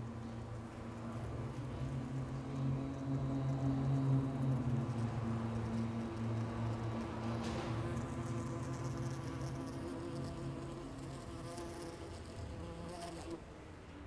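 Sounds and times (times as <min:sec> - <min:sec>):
housefly buzzing: 0:01.0 - 0:13.4.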